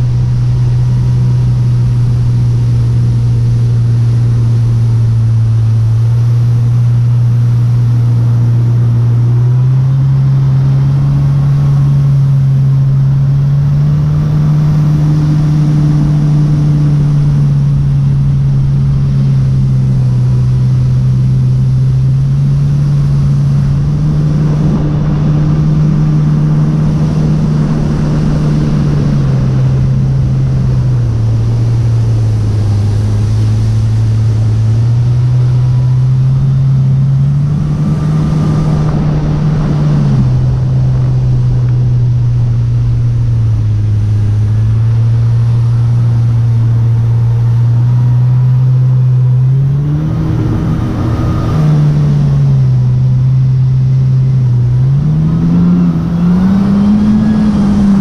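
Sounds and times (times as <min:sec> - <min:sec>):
jet ski engine running: 0:00.0 - 0:58.0
water spray rushing: 0:00.0 - 0:58.0
wind: 0:00.0 - 0:58.0.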